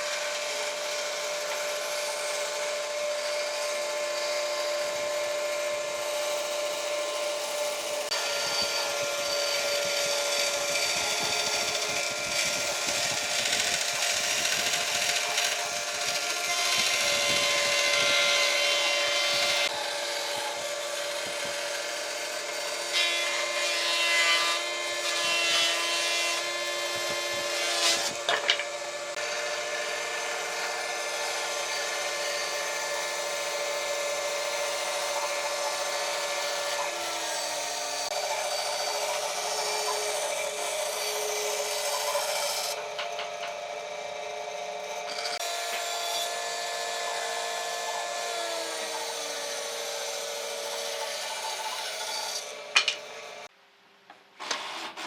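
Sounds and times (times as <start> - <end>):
power tool motor whine: 0.0 - 23.6, 24.6 - 53.5.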